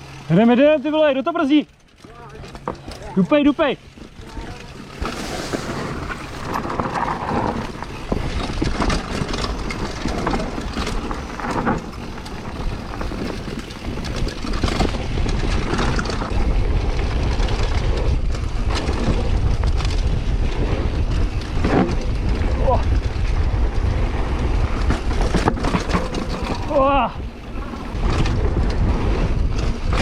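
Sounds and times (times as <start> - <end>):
bike rattling over bumps: 0.0 - 30.0
tyres rolling on dirt: 0.0 - 30.0
wind buffeting microphone: 3.7 - 30.0.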